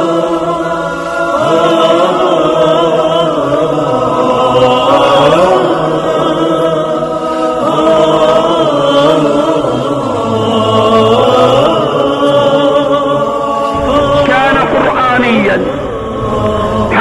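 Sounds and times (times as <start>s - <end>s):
unaccompanied religious chanting: 0.0s - 17.0s.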